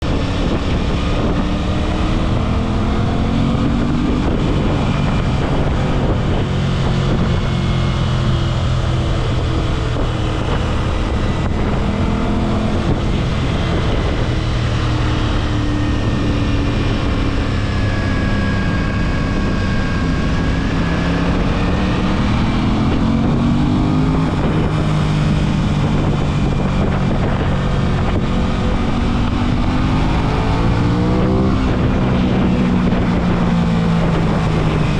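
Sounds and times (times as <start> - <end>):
motorcycle engine revving: 0.0 - 34.9
wind on microphone: 0.0 - 34.9.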